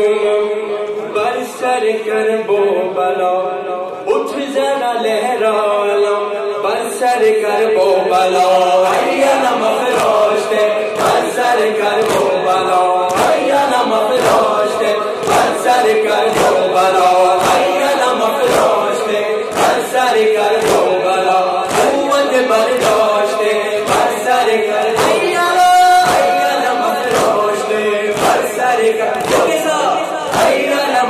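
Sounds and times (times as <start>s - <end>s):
man singing a lament into microphone: 0.0s - 31.0s
crowd of men chanting: 4.4s - 31.0s.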